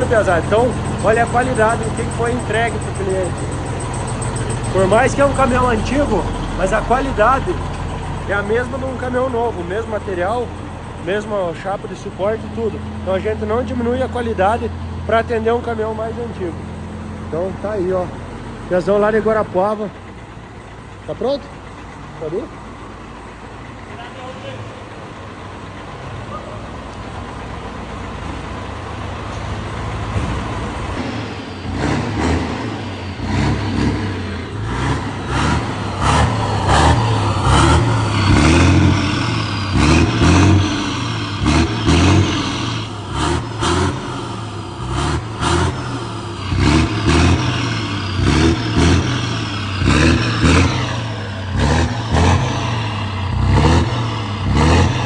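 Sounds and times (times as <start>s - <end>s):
diesel truck engine revving: 0.0s - 55.0s.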